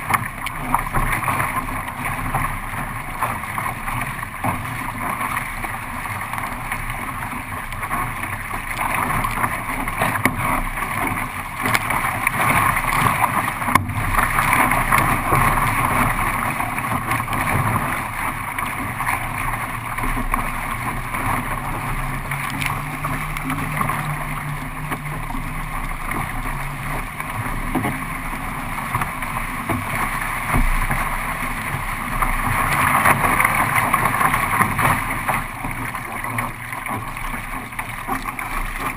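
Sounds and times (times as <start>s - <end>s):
sea water rushing and splashing: 0.0s - 38.9s.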